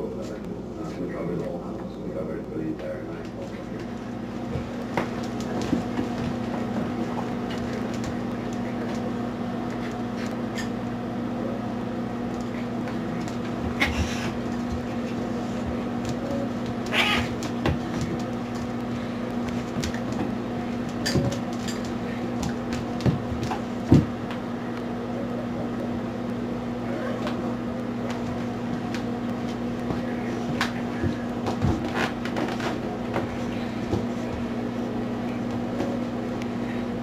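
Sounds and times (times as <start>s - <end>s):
steady low hum: 0.0s - 37.0s
paws scrabbling on tile floor: 2.8s - 10.9s, 12.2s - 24.8s, 27.0s - 37.0s.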